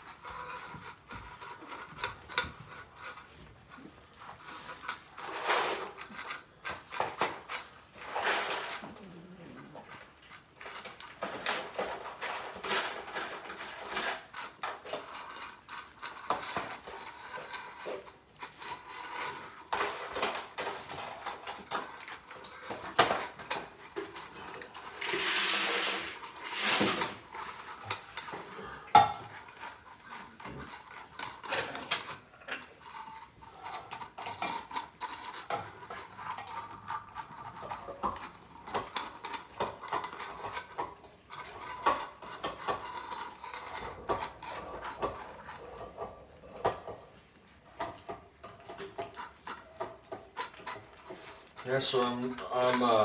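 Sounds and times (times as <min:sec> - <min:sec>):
dishes and cans clinking: 0:00.0 - 0:53.0.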